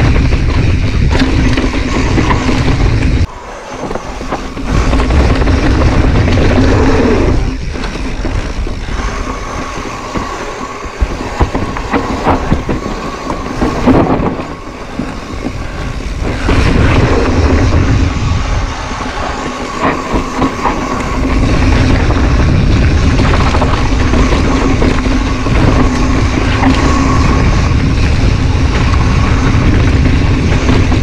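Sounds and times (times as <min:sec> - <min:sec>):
bike knocks and rattles over bumps: 0:00.0 - 0:18.4, 0:19.4 - 0:31.0
bike tyres rumbling on dirt trail: 0:00.0 - 0:31.0.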